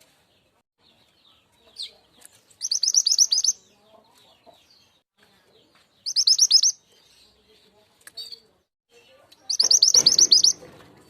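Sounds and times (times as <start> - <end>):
high chirping bird call: 0.8 - 5.0, 5.6 - 7.6, 8.2 - 11.0.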